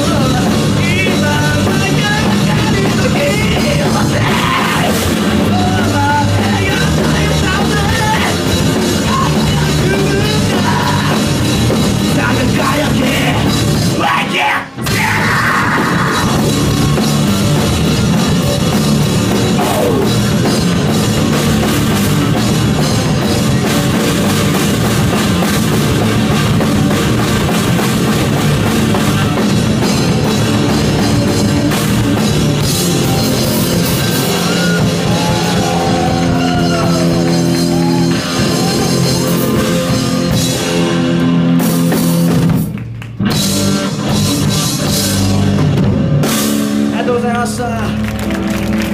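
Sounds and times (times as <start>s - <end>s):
drum kit: 0.0s - 48.9s
electric bass: 0.0s - 48.9s
electric guitar: 0.0s - 48.9s.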